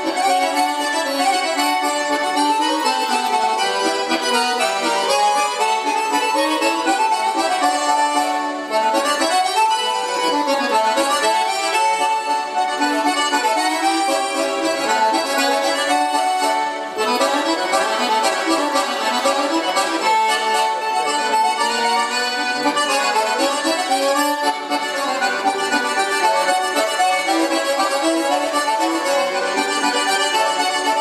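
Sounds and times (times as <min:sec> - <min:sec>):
solo accordion melody: 0:00.0 - 0:31.0.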